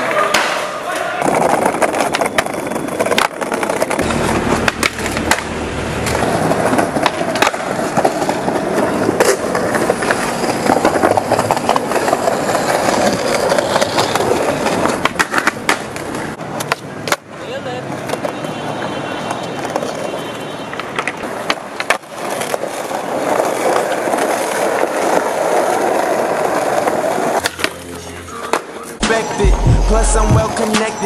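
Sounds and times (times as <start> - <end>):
skateboard clacks: 0.0 - 27.8
skateboard wheels rolling on concrete: 0.0 - 31.0.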